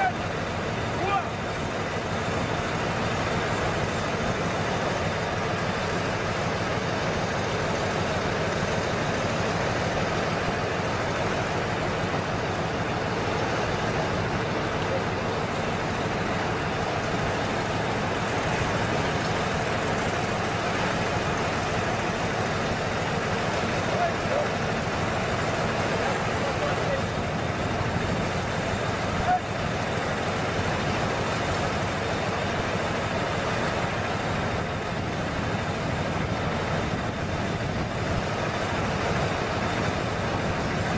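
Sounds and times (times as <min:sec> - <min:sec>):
truck engine running steadily: 0:00.0 - 0:40.9.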